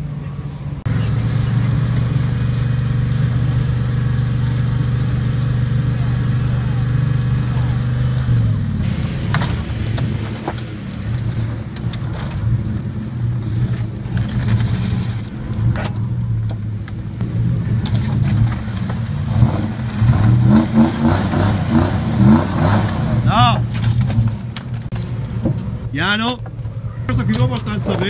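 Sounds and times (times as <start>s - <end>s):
car engine running under load: 0.0s - 28.0s
wheel spinning throwing dirt: 0.9s - 28.0s.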